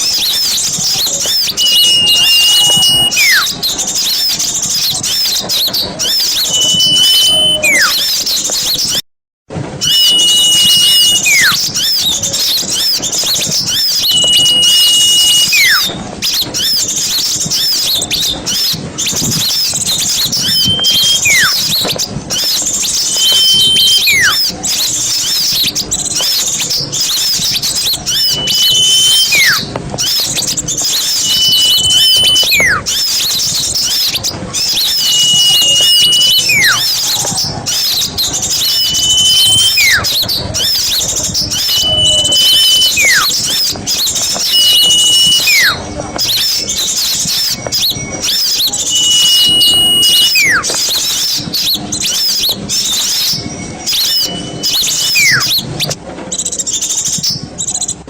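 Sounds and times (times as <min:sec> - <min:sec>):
lure whistle call: 0:00.0 - 0:09.0, 0:09.8 - 0:56.0
songbirds chirping chorus: 0:00.0 - 0:09.0, 0:09.8 - 0:58.0.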